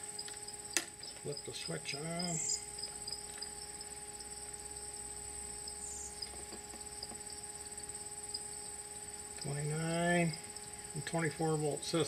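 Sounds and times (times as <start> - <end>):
faint steady hum: 0.0 - 12.0
insects chirring: 0.0 - 12.0.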